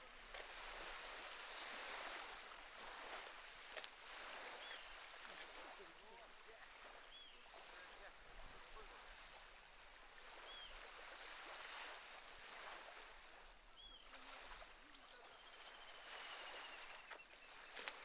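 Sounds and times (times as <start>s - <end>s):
waves lapping on rocky shore: 0.0s - 18.0s.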